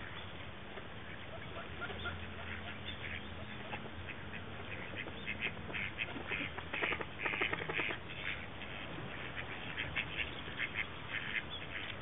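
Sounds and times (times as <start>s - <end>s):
ducks quacking: 1.0s - 12.0s.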